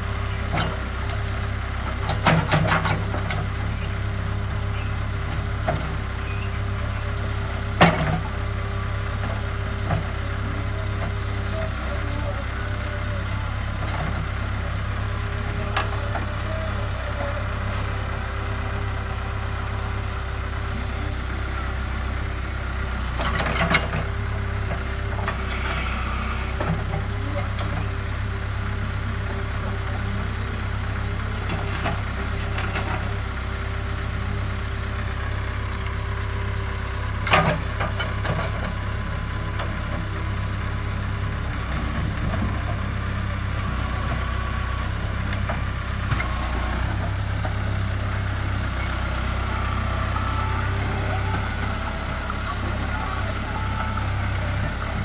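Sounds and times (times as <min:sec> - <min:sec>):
backhoe arm dragging soil: 0:00.0 - 0:55.0
diesel engine under load: 0:00.0 - 0:55.0.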